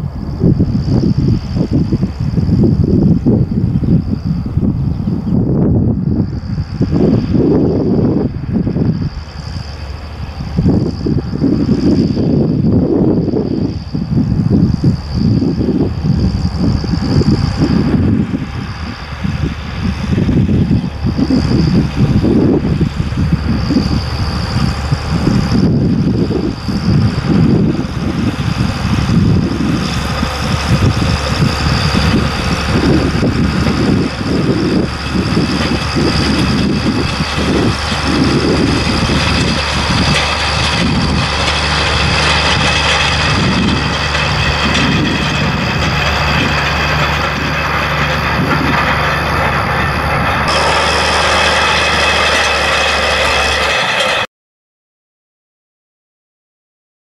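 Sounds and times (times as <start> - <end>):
tractor diesel engine running: 0.0 - 54.3
wind buffeting microphone: 0.0 - 54.3.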